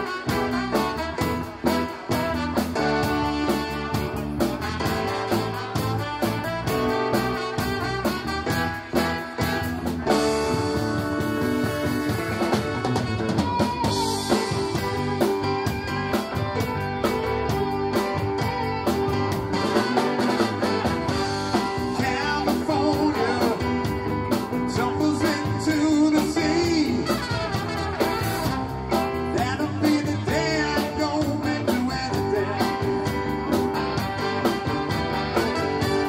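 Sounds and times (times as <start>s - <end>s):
bass: 0.0s - 36.0s
drum kit beat: 0.0s - 36.0s
electric guitar: 0.0s - 36.0s
keyboard melody: 0.0s - 36.0s.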